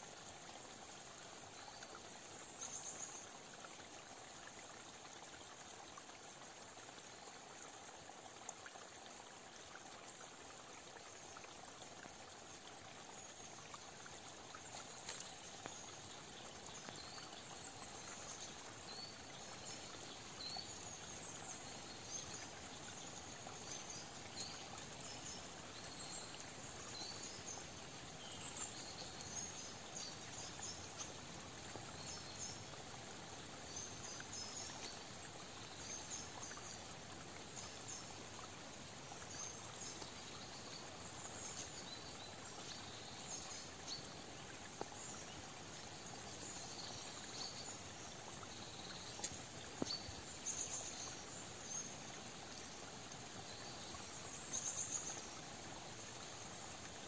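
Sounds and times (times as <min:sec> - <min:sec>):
soft steady hiss: 0:00.0 - 0:57.0.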